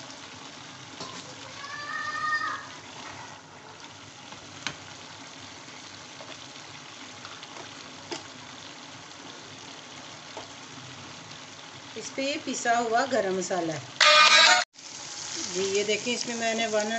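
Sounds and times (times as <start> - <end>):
curry sizzling in a pan: 0.0 - 16.9.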